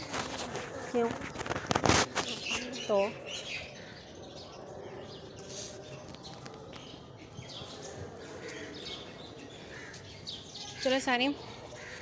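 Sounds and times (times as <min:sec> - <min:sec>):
birds chirping: 0:00.0 - 0:12.0
steady background noise: 0:00.0 - 0:12.0.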